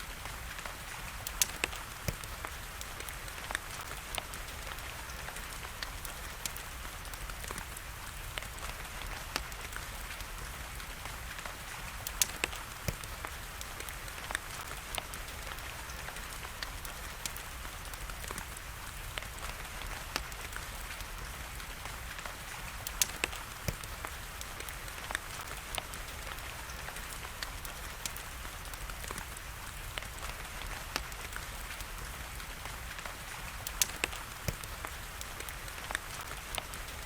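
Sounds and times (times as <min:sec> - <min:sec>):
rain hiss: 0:00.0 - 0:37.0
wood fire crackling: 0:00.0 - 0:37.0.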